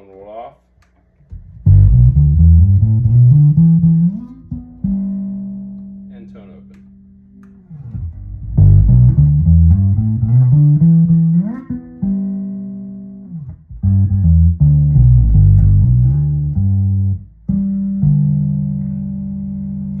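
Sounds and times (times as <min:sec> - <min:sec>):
electric bass played fingerstyle: 0:01.0 - 0:20.0.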